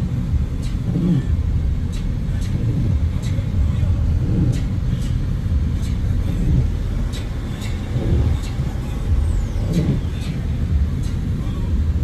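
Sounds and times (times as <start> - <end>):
car driving low rumble: 0.0 - 12.0.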